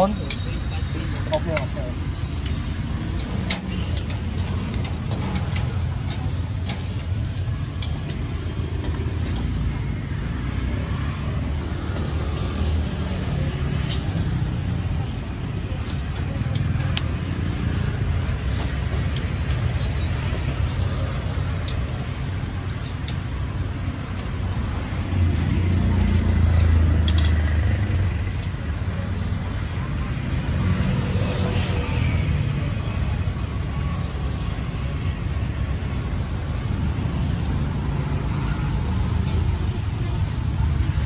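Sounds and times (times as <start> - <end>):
low traffic rumble: 0.0 - 41.0.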